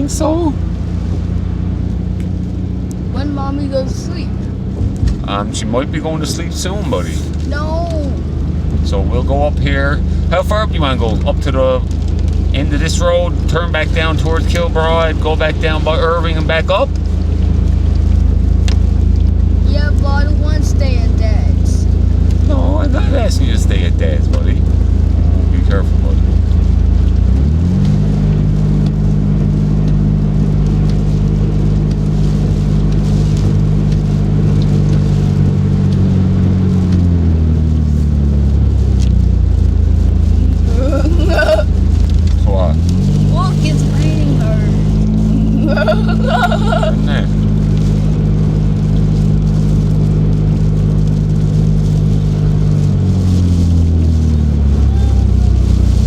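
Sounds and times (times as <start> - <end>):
car engine: 0.0 - 56.0
road noise inside car: 0.0 - 56.0.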